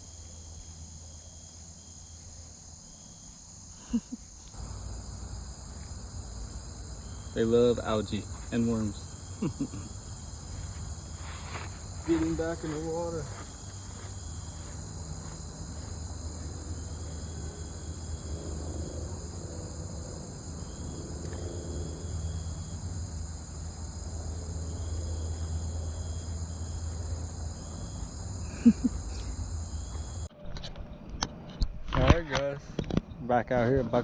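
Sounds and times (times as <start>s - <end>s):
crickets and insects trilling: 0.0s - 30.3s.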